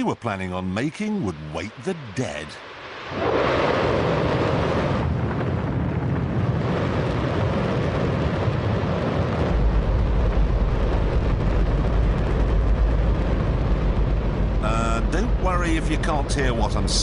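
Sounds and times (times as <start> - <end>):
rocket engine roaring: 0.8 - 17.0.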